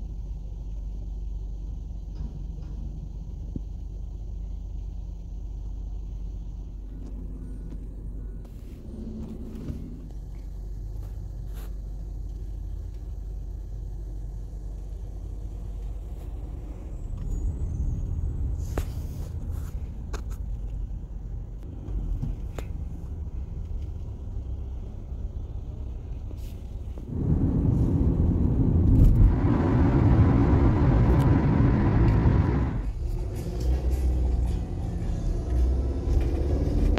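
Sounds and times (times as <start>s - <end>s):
road and wind noise: 0.0s - 36.9s
road traffic rumble: 0.0s - 36.9s.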